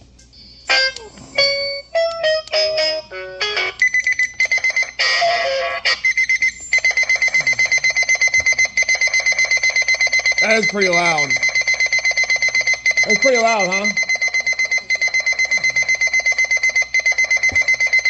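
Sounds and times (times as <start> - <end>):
digital alarm clock beeping: 2.6 - 18.0.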